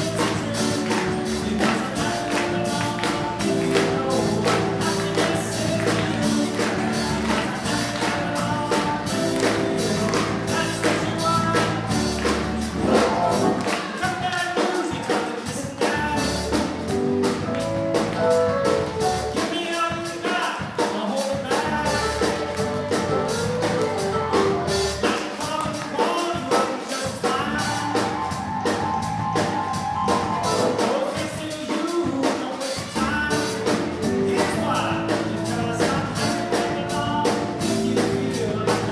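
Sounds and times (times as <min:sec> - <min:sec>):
drum kit beat: 0:00.0 - 0:38.9
live band music: 0:00.0 - 0:38.9.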